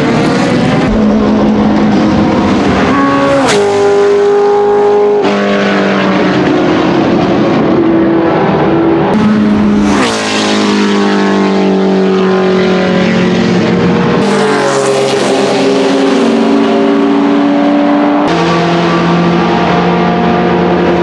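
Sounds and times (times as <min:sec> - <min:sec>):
racing engine at high revs: 0:00.0 - 0:21.0.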